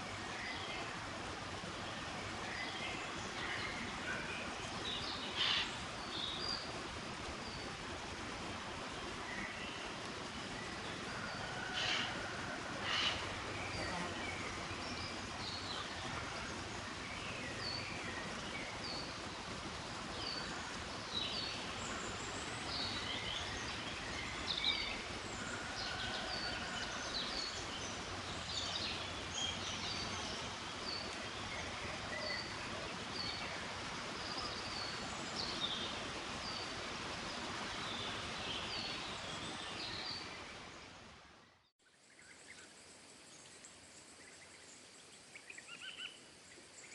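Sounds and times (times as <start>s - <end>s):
outdoor background hiss: 0.0s - 46.9s.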